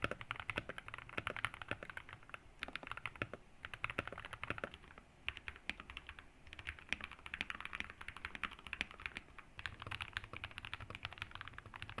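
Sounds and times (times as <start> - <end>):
fast mechanical keyboard typing: 0.0 - 12.0.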